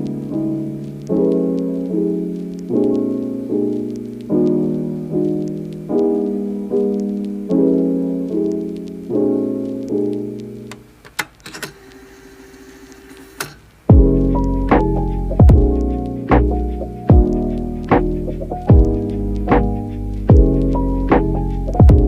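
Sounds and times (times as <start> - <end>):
soft piano chords: 0.0 - 11.0, 13.9 - 22.0.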